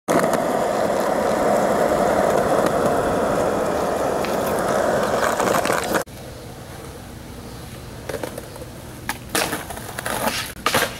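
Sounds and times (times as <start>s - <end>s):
skateboard wheels rolling on concrete: 0.1s - 10.9s.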